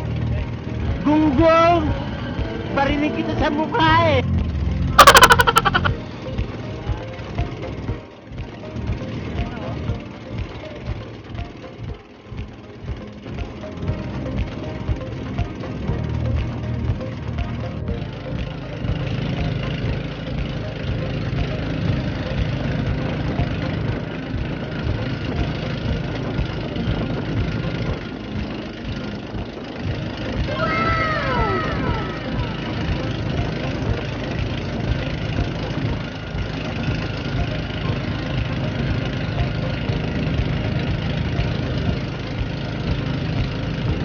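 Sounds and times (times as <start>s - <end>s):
motorboat engine running: 0.0s - 44.0s.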